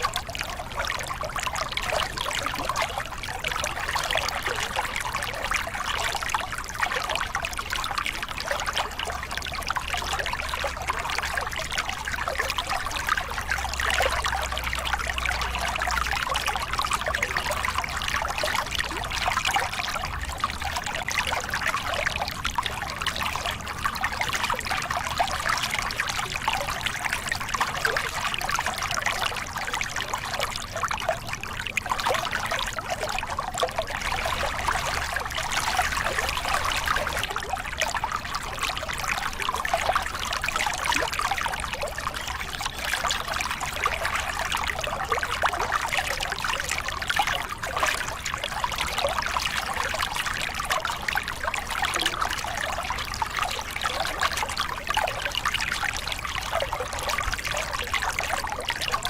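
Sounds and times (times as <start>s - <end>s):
water splashing over rocks: 0.0s - 59.0s.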